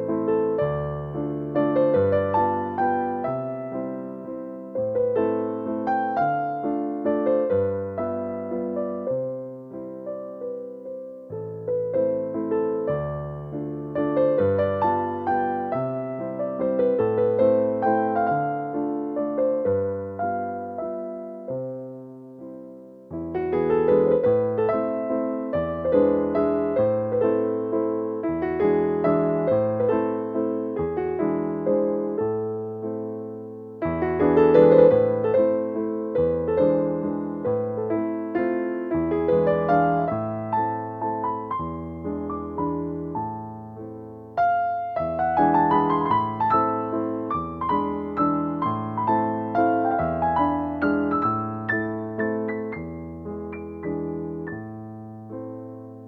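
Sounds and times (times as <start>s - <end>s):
gentle piano music: 0.0s - 56.0s.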